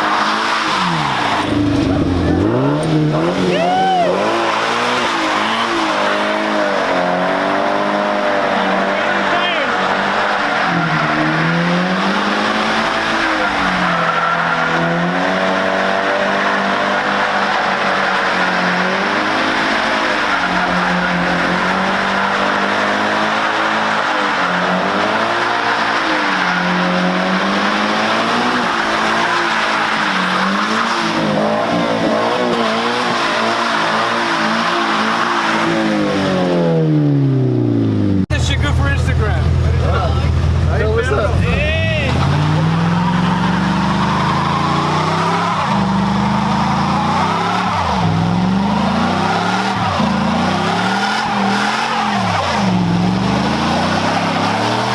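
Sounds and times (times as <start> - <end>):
tires squealing: 0.0 - 37.0, 38.4 - 54.9
car engine revving: 0.0 - 54.9.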